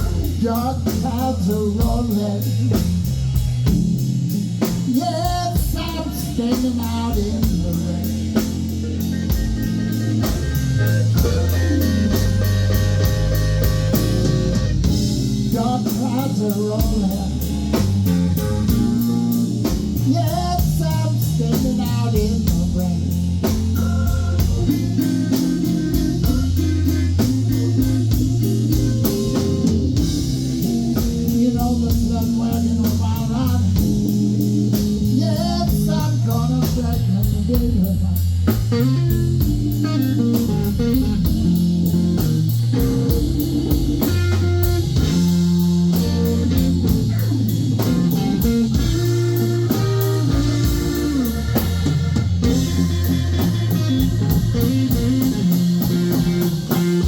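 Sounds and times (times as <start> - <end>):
electric guitar lead lines: 0.0 - 37.8, 38.5 - 57.0
bass guitar: 0.0 - 57.0
steady drum beat: 0.0 - 57.0.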